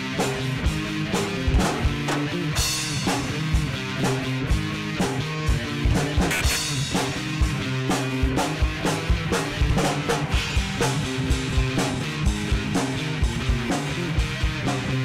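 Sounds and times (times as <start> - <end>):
rock band playing: 0.0 - 15.0
kick and snare drums: 0.3 - 15.0.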